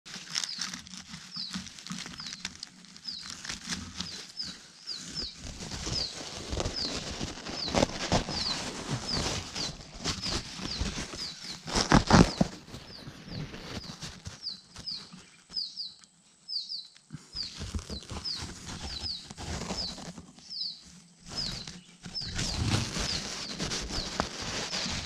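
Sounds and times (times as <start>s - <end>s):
rustling of dry grass: 0.1s - 25.0s
bird chick chirping: 0.4s - 25.0s.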